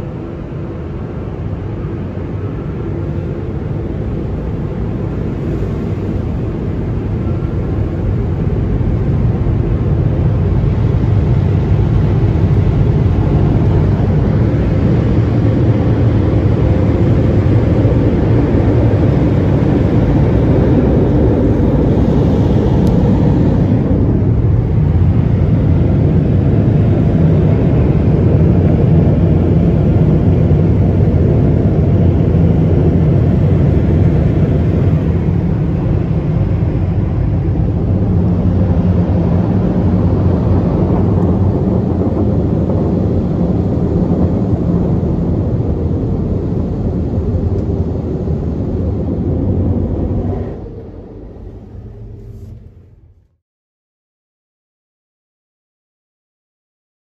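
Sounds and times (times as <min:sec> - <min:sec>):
car wash dryer blowers rushing: 0:00.0 - 0:53.2.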